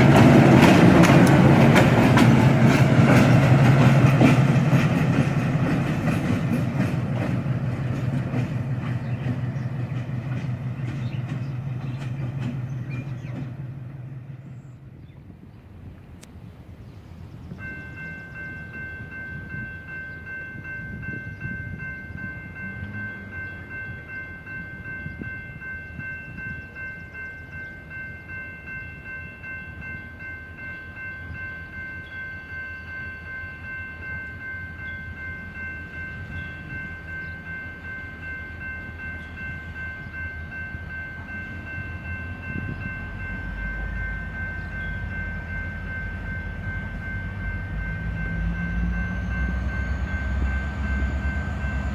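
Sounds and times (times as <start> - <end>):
railroad crossing bell ringing: 0.0 - 14.6, 17.4 - 51.9
train rumble: 0.0 - 51.9.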